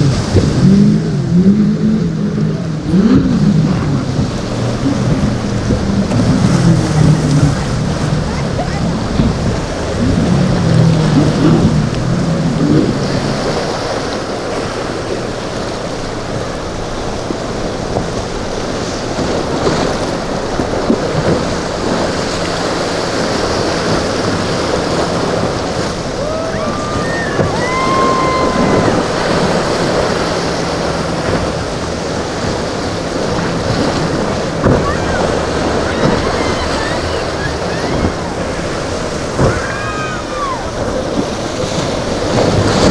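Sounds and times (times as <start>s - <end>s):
low drone of boat engines: 0.0s - 42.9s
waves breaking: 0.0s - 42.9s
wind buffeting microphone: 0.0s - 42.9s.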